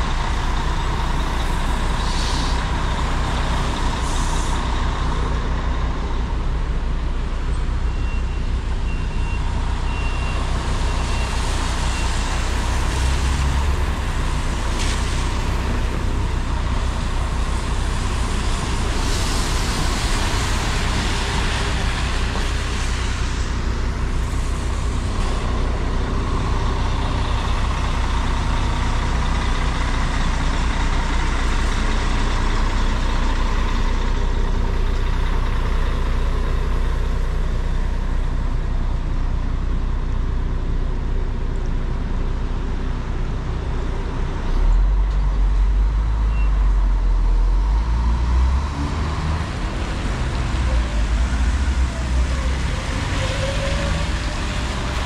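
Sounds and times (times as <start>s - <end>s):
bus engines rumbling: 0.0s - 55.0s
wet street traffic: 0.0s - 55.0s.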